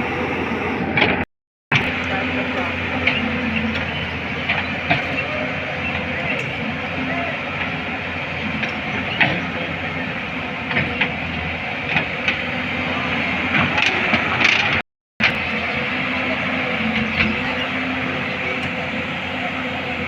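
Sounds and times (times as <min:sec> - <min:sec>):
excavator running: 0:00.0 - 0:20.0.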